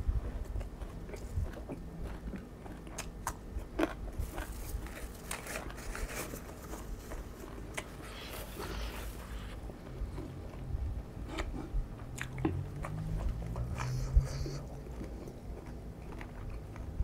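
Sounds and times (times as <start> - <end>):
person chewing crunchy food: 0.2 - 17.0.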